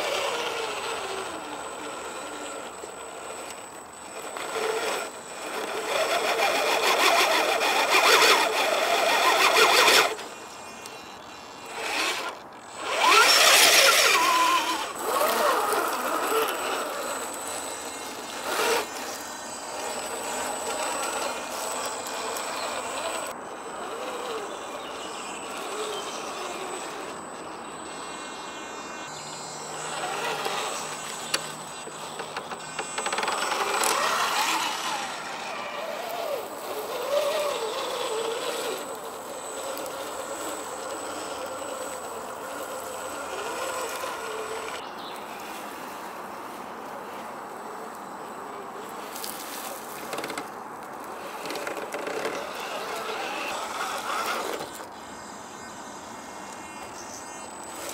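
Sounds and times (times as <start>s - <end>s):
electric motor and gears whining: 0.0s - 57.9s.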